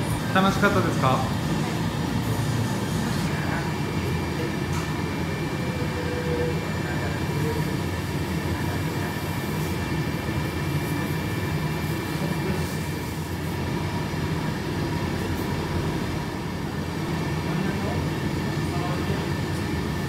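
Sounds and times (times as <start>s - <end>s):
furnaces rumbling: 0.0s - 20.0s.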